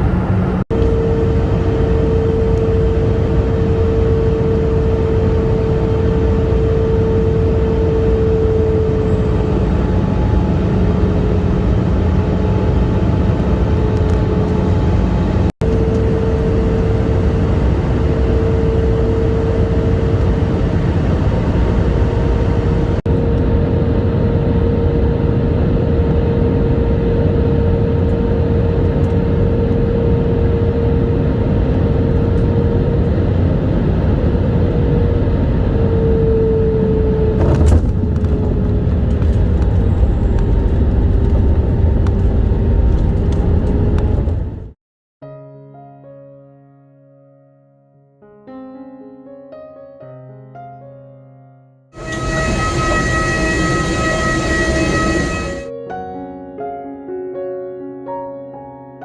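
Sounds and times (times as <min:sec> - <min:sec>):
vehicle cabin engine drone: 0:00.0 - 0:44.8, 0:52.0 - 0:55.7.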